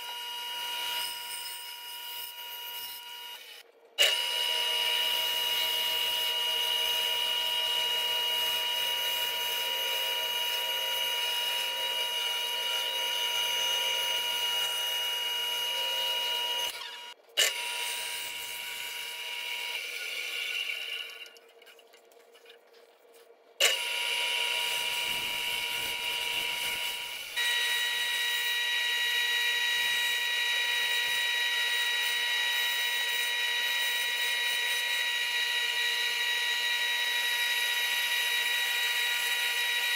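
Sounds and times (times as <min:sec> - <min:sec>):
bandsaw cutting wood: 0:00.0 - 0:21.3, 0:23.6 - 0:39.9.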